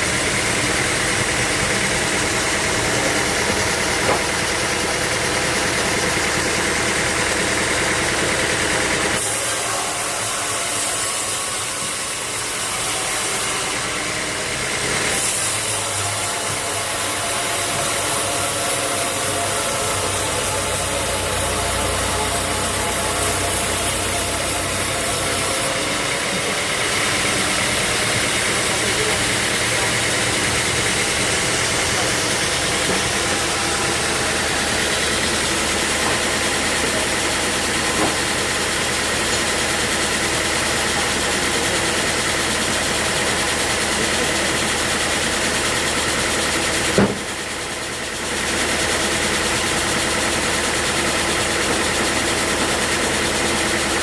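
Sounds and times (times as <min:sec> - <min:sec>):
sawmill machinery motor drone: 0:00.0 - 0:54.0.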